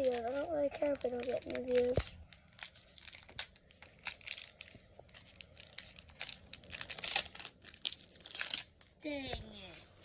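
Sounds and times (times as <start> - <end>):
foil pack tearing and crinkling: 0.0 - 8.9.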